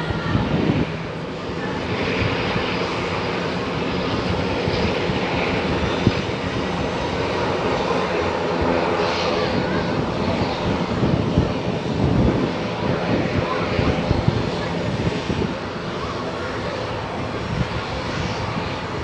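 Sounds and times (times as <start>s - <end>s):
turboprop propeller drone: 0.0s - 19.0s.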